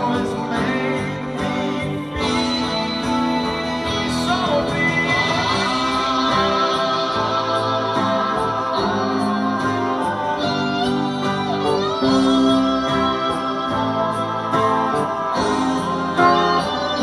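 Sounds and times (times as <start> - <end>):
bass line: 0.0 - 17.0
man singing: 0.0 - 17.0
strummed acoustic guitar: 0.0 - 17.0.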